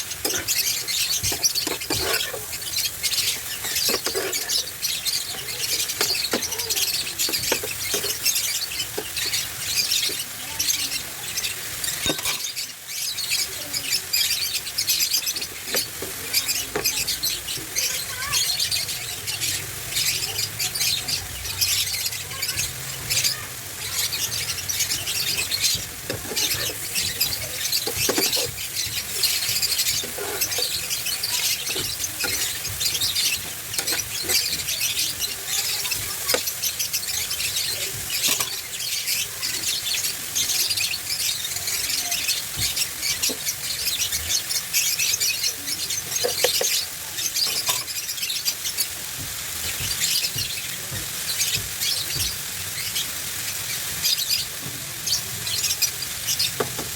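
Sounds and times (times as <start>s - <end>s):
vegetables sizzling in a pan: 0.0s - 56.9s.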